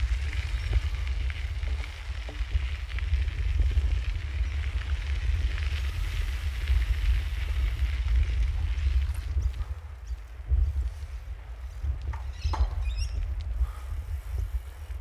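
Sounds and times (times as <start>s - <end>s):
small crackles: 0.0s - 15.0s
wind buffeting microphone: 0.0s - 15.0s.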